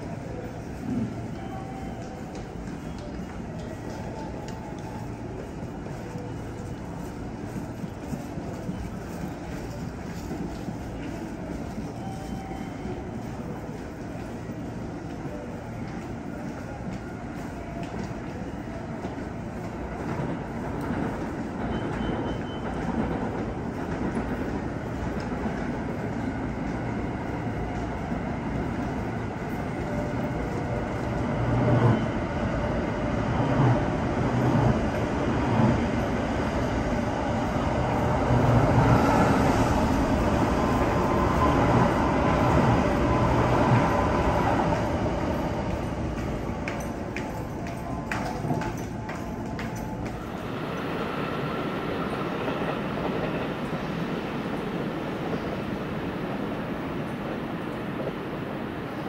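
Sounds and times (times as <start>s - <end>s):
train rail rumble: 0.0s - 59.0s.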